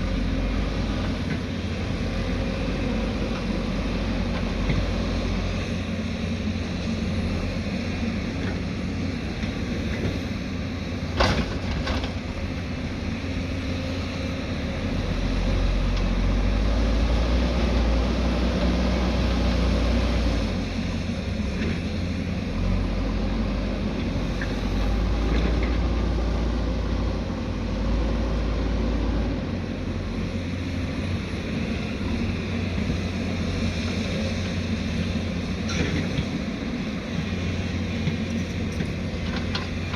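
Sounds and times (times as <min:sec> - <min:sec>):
heavy machine diesel engine running: 0:00.0 - 0:39.9.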